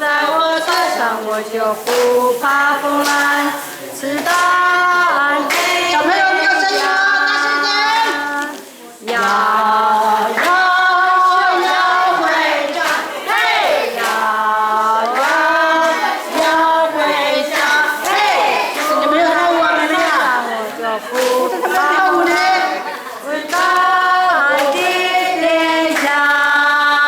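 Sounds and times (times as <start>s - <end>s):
children singing a hymn: 0.0s - 27.0s.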